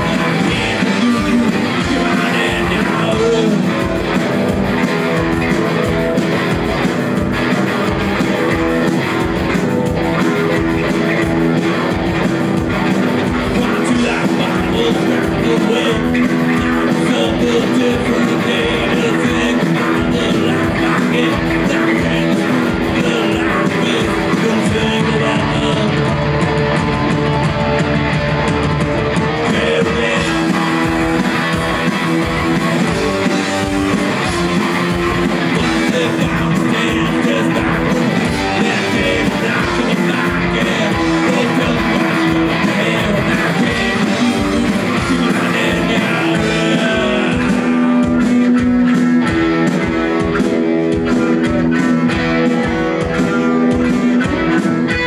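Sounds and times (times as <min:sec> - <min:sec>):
punk band playing live: 0:00.0 - 0:55.0.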